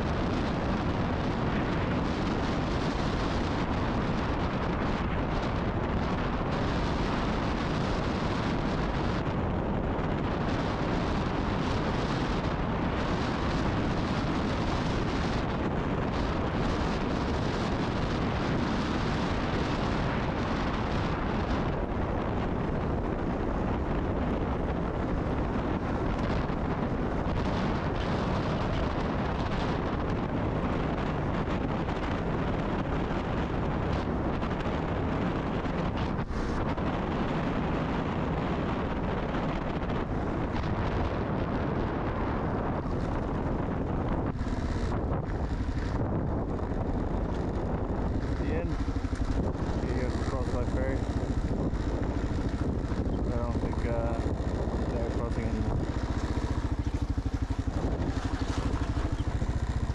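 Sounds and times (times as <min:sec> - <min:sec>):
motorcycle engine: 0:00.0 - 0:59.9
road noise: 0:00.0 - 0:59.9
wind rumble on microphone: 0:00.0 - 0:59.9.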